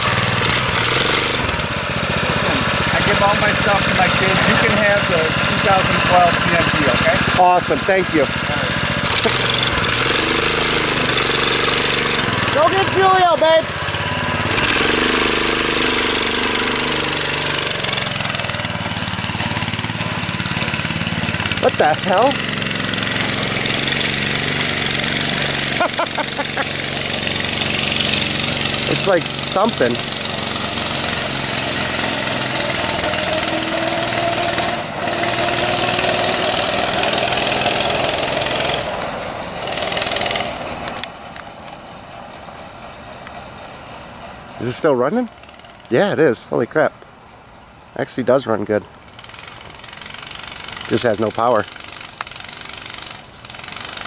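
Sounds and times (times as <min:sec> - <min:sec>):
small gas engine running: 0:00.0 - 0:46.7, 0:48.1 - 0:54.0.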